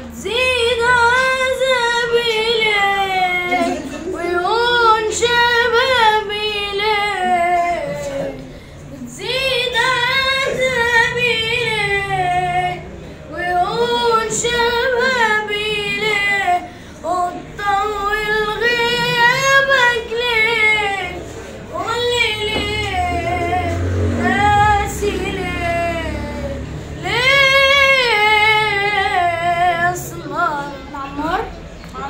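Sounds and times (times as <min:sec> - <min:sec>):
boy singing unaccompanied: 0:00.1 - 0:32.0.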